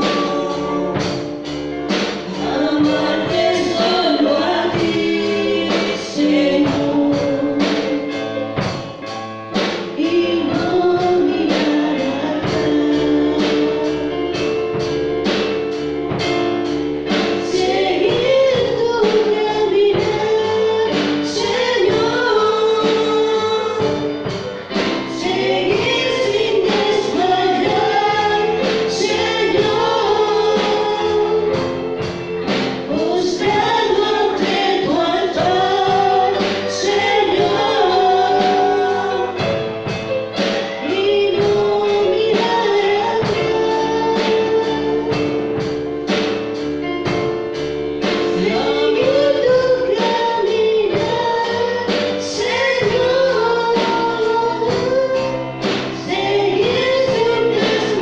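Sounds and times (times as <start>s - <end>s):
live gospel song with band: 0.0s - 58.0s.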